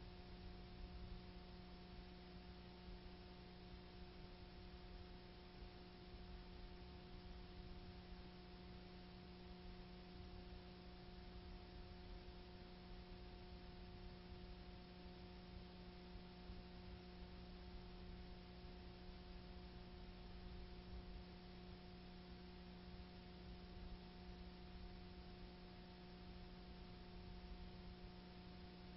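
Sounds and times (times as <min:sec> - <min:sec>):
faint electrical hum: 0:00.0 - 0:28.9.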